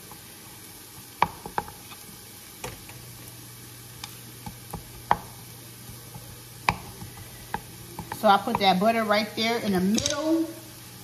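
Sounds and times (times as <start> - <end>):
rice sizzling: 0.0 - 11.0.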